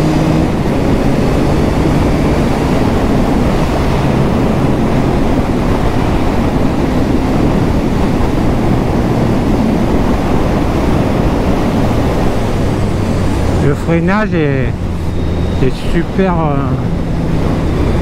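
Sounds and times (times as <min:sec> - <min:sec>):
motorcycle engine cruising: 0:00.0 - 0:18.0
wind roar on microphone: 0:00.0 - 0:18.0.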